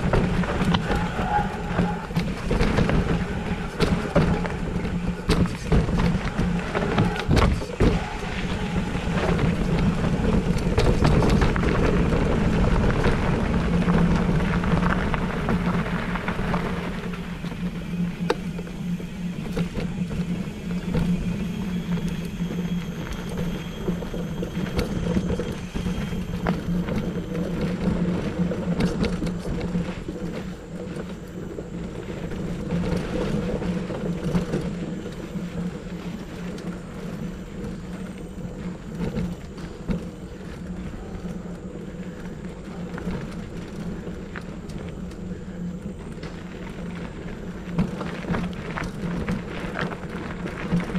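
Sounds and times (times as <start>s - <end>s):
bike knocking and rattling: 0.0s - 50.9s
bike tyre rolling on dirt: 0.0s - 50.9s.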